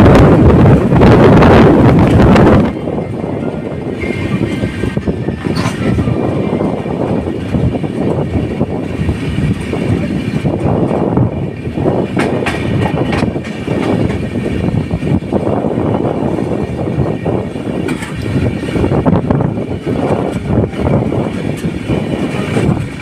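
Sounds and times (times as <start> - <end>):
clattering clicks of train: 0.0 - 23.0
train wheels rumbling on rails: 0.0 - 23.0.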